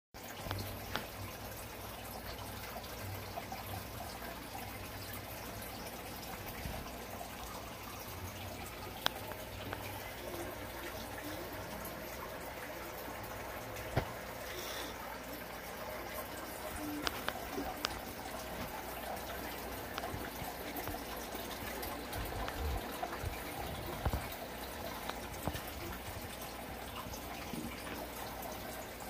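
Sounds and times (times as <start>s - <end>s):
aquarium water bubbling: 0.2s - 29.0s.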